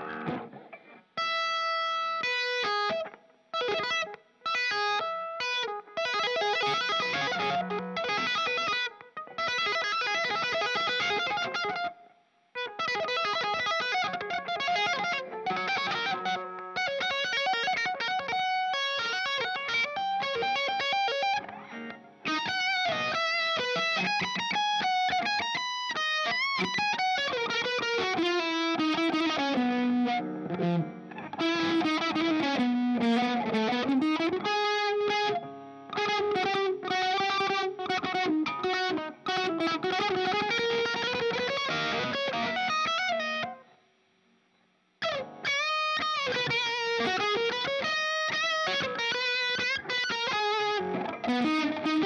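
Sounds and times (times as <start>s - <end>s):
electric guitar lead lines: 0.0s - 43.8s, 45.0s - 52.0s.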